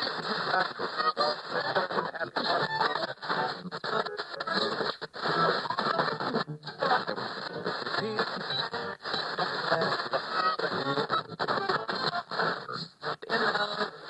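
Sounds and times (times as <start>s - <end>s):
radio station music: 0.0s - 14.0s
scratchy radio interference: 0.0s - 14.0s.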